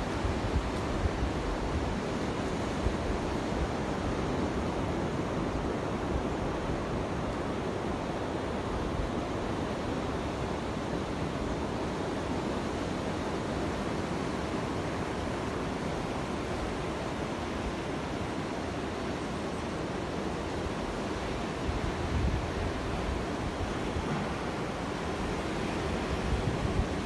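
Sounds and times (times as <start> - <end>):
sea surf washing: 0.0 - 27.0
wind rumbling on microphone: 0.0 - 27.0.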